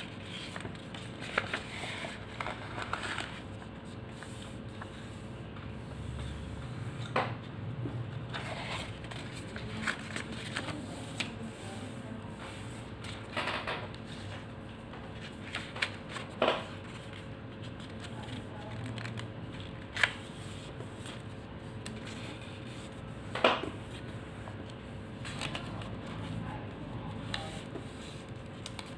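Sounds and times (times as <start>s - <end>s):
paper rustling and sliding: 0.0s - 7.0s, 8.3s - 14.5s, 15.1s - 26.3s.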